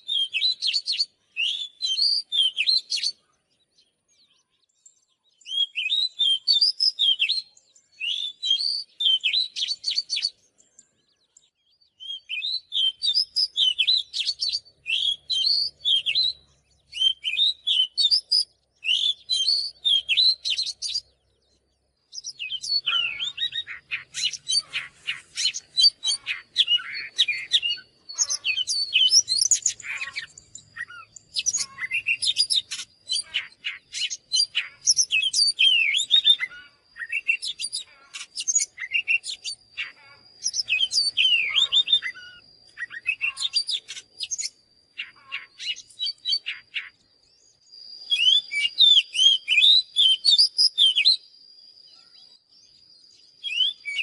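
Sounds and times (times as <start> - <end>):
bird song whistles and chatter: 0.0 - 54.0
faint steady high tone: 7.4 - 54.0.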